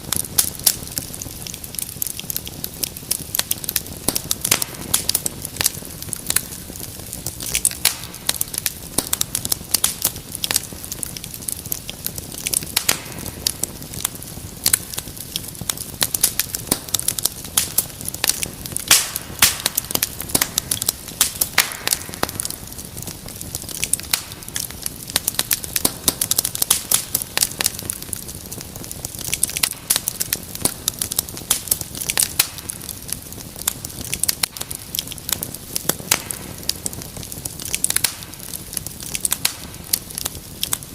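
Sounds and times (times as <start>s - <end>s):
low hiss of burning: 0.0s - 40.9s
wood fire crackling and popping: 0.0s - 40.9s.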